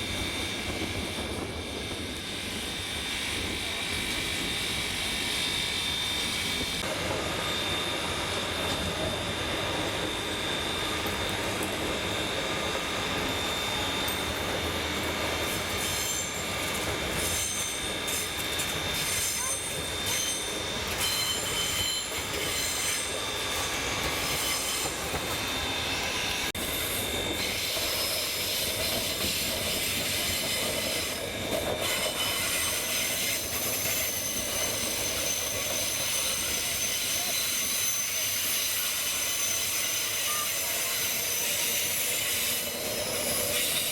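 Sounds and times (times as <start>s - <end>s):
steam train rumbling on track: 0.0s - 43.9s
wheels squealing on rails: 0.0s - 43.9s.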